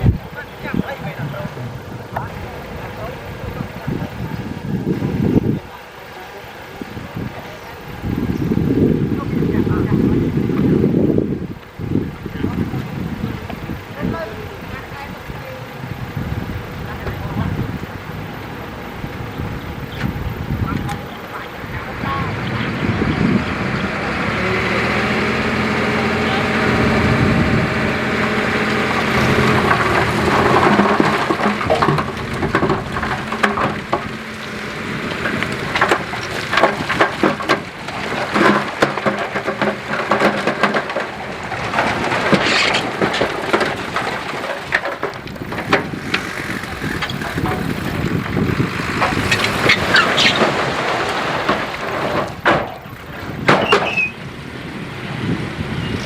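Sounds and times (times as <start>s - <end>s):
construction machinery engine: 0.0s - 56.0s.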